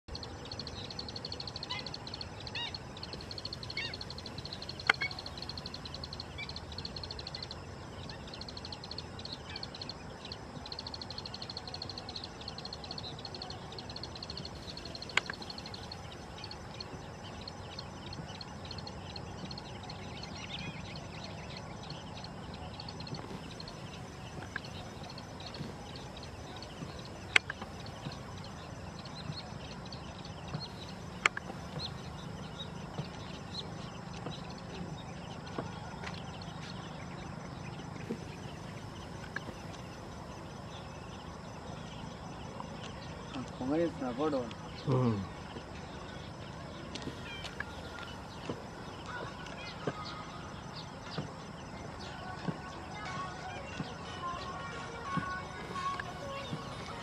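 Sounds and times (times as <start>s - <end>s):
small birds chirping: 0.1s - 57.0s.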